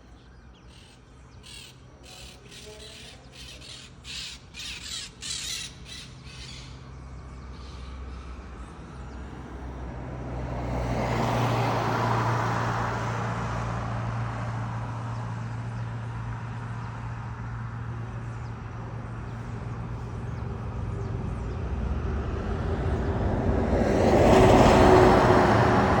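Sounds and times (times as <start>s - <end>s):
motor vehicle passing: 3.6s - 26.0s
low engine hum: 4.9s - 26.0s.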